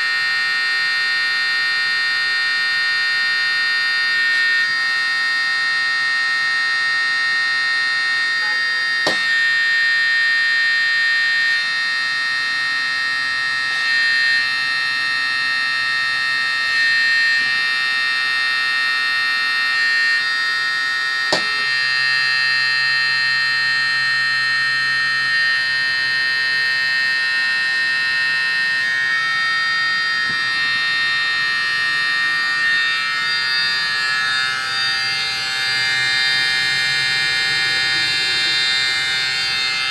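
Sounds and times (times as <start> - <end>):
hydraulic pump whine: 0.0 - 39.9.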